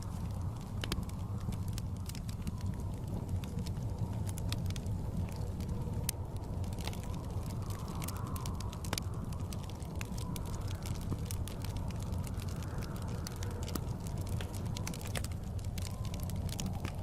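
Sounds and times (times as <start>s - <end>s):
blizzard wind rumble: 0.0s - 17.0s
wood fire crackling: 0.0s - 17.0s.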